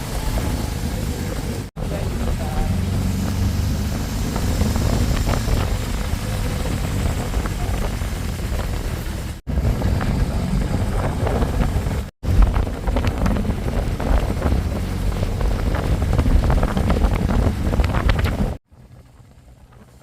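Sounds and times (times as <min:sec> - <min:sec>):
engine and road rumble: 0:00.0 - 0:20.0
wind buffeting microphone: 0:00.0 - 0:20.0.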